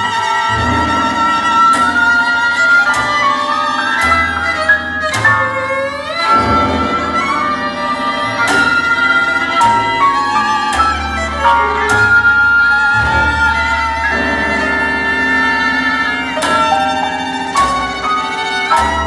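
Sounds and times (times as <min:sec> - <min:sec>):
held high string-like notes: 0:00.0 - 0:19.0
low held bass: 0:00.0 - 0:19.0.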